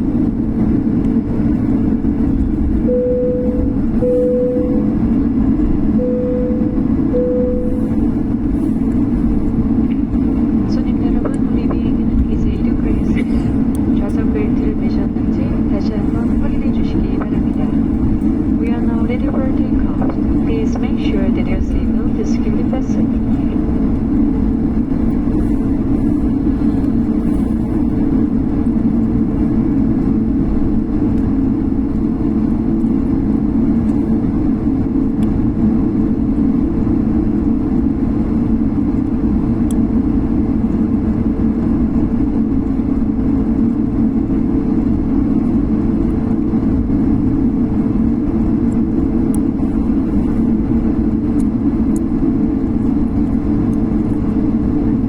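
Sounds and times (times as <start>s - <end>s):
jet engine drone: 0.0s - 55.0s.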